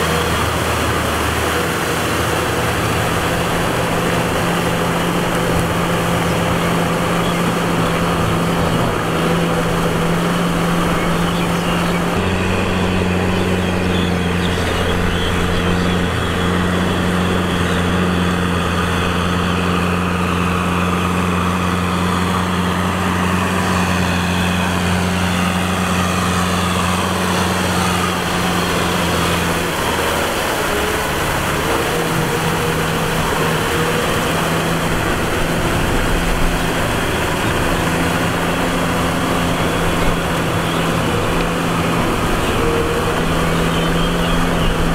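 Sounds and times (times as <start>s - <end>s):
tractor engine under load: 0.0s - 44.9s.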